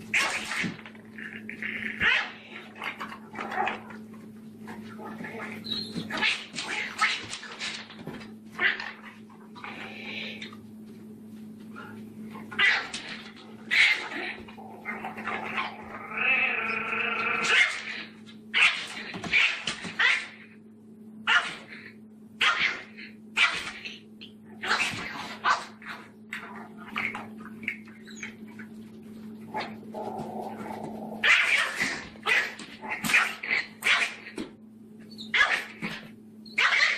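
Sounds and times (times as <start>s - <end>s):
puppy growling and snarling: 0.0s - 10.5s, 11.8s - 20.4s, 21.3s - 28.5s, 29.4s - 34.4s, 35.3s - 36.9s.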